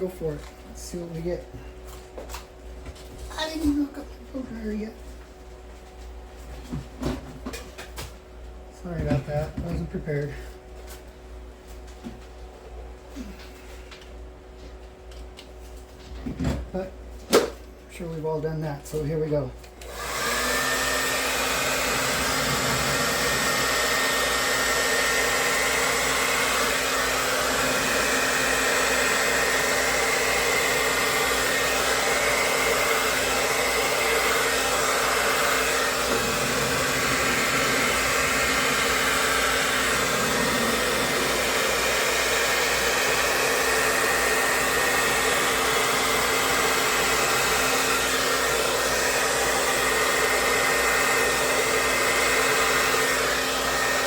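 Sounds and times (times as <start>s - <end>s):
blow dryer running: 0.0s - 5.0s, 8.8s - 10.6s, 12.8s - 14.1s, 16.2s - 54.0s.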